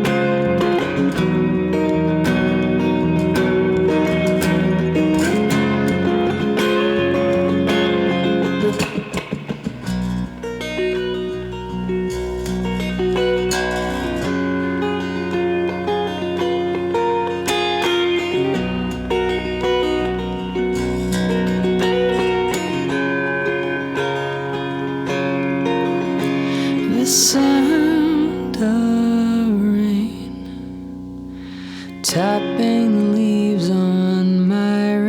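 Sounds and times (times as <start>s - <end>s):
plucked-string notes: 0.0s - 34.8s.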